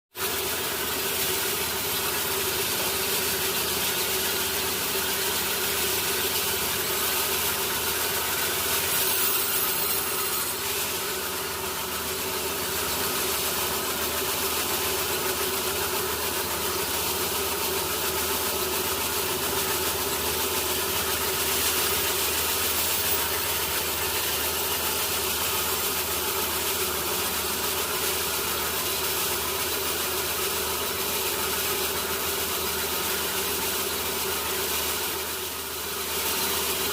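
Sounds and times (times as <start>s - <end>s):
sawmill machinery humming: 0.2s - 36.9s.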